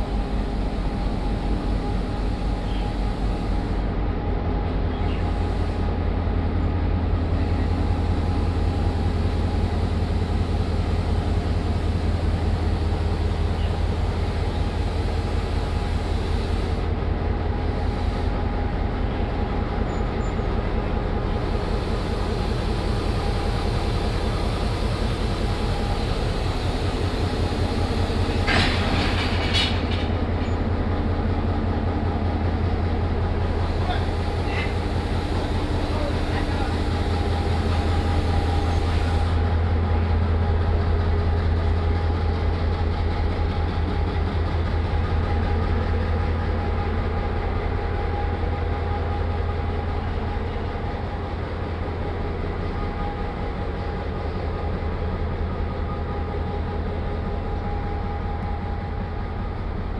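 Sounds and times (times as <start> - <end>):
locomotive diesel engine droning: 0.0 - 59.9.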